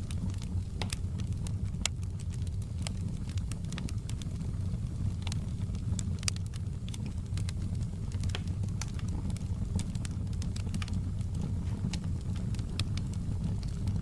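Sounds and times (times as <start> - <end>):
burning wood crackling and popping: 0.0 - 14.0
campfire flames rumbling: 0.0 - 14.0.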